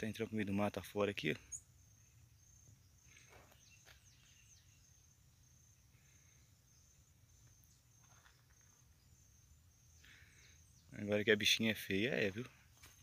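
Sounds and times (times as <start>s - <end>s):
high insect trill: 0.1s - 13.0s.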